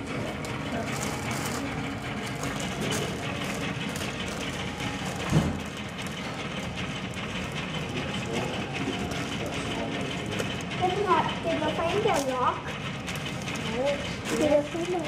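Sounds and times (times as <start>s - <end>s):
machinery clattering: 0.0s - 15.0s.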